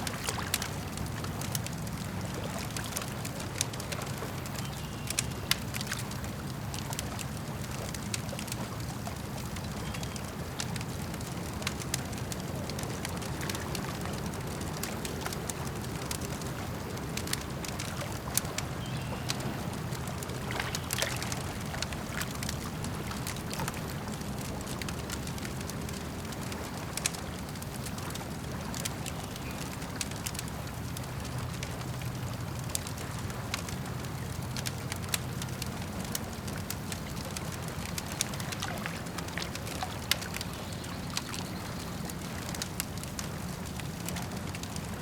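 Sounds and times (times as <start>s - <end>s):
campfire crackling: 0.0s - 45.0s
lake water lapping: 0.0s - 45.0s.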